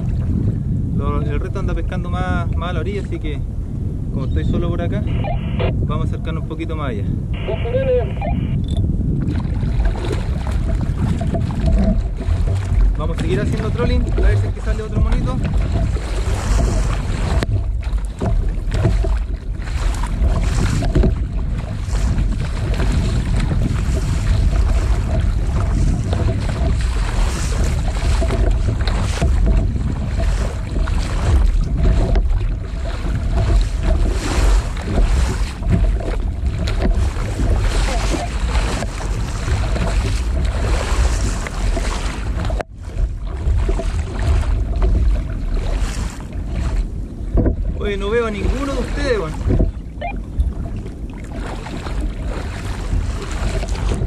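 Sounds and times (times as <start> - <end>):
water washing against hull: 0.0 - 54.0
wind buffeting microphone: 0.0 - 54.0
kayak paddle splashing: 7.3 - 54.0.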